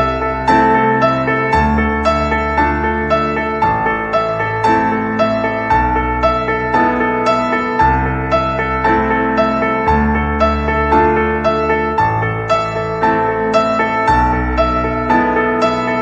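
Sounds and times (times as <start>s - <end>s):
gentle piano notes: 0.0s - 16.0s
held bass notes: 0.0s - 16.0s.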